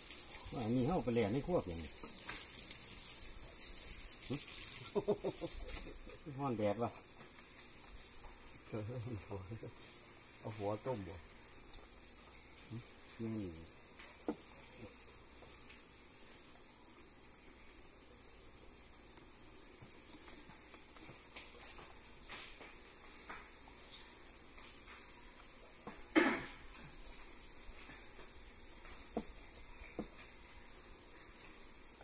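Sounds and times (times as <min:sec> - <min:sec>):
food sizzling on the stove: 0:00.0 - 0:32.0.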